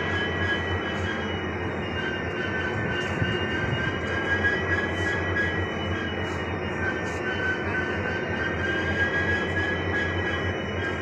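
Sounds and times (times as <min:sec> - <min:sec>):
diesel locomotive engine running: 0:00.0 - 0:11.0
thin high tone: 0:00.0 - 0:11.0.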